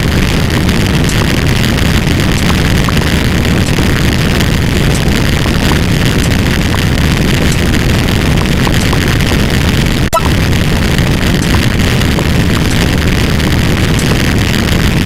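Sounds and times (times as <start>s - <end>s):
deep rumble: 0.0s - 15.0s
explosion-like booms: 0.0s - 15.0s.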